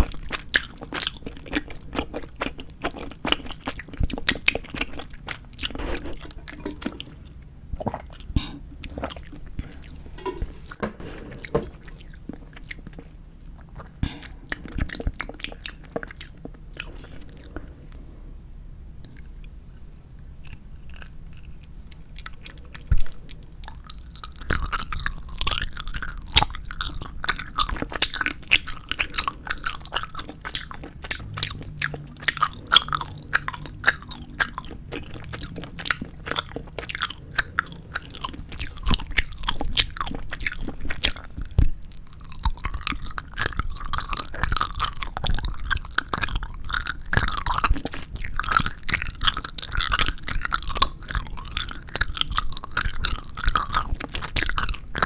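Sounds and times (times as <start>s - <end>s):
chewing gummy candy: 0.0s - 18.0s, 19.0s - 55.0s.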